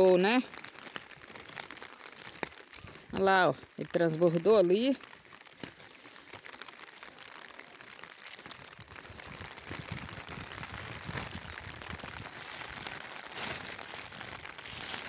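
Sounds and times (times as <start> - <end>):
running floodwater: 0.0 - 15.0.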